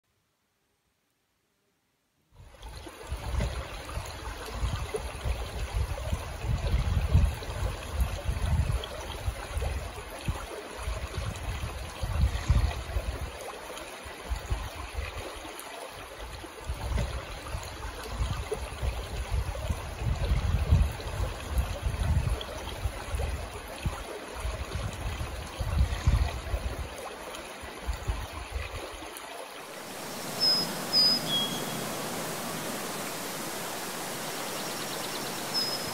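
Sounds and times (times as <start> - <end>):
creek babbling over stones: 2.4 - 35.9.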